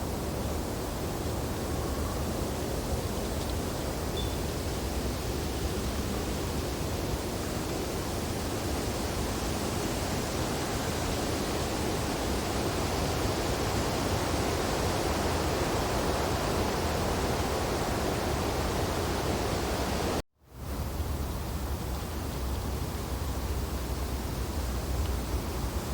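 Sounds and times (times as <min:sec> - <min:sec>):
wind through tree branches: 0:00.0 - 0:25.9.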